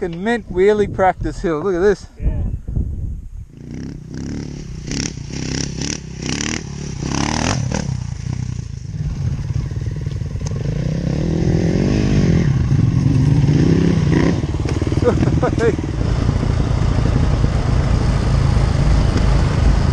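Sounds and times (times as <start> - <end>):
motorcycle engine revving: 3.5 - 19.9.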